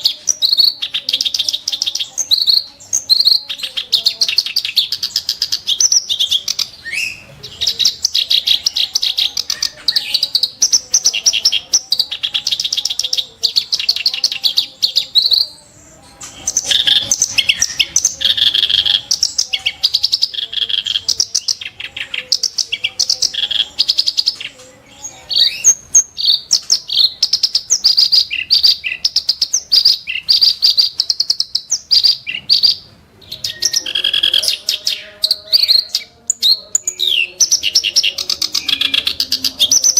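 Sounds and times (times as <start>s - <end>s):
reed warbler singing: 0.0s - 39.9s.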